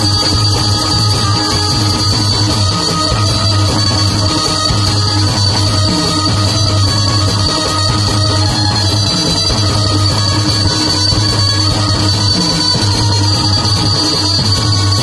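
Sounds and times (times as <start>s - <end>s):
devotional folk music: 0.0s - 15.0s
hand drums: 0.0s - 15.0s.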